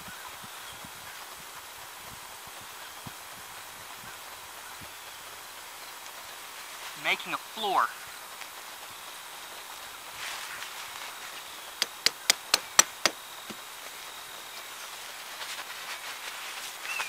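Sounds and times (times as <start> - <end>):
faint insect whine: 0.0 - 17.0.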